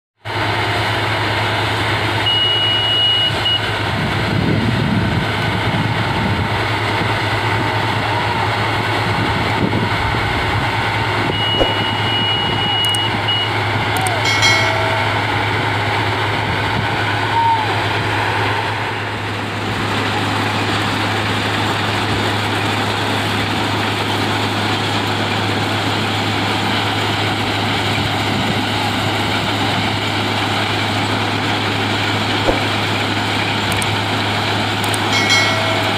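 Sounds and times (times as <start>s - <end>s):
diesel machine drone: 0.2s - 35.9s.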